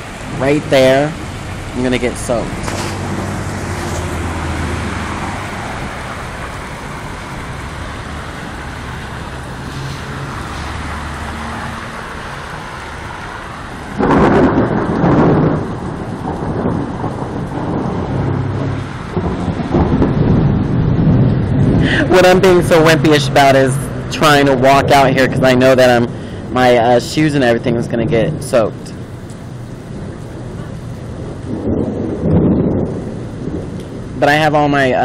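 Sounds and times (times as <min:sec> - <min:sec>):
heavy rain on pavement: 0:00.0 - 0:35.0
uneven rumble: 0:00.0 - 0:35.0.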